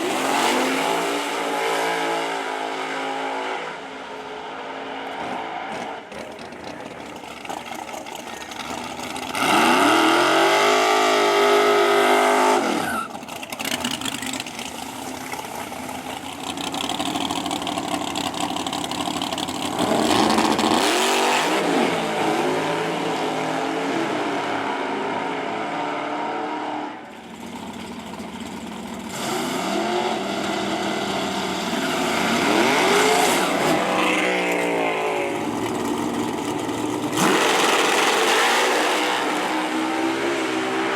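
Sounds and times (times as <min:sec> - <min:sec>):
race car engines revving: 0:00.0 - 0:40.9.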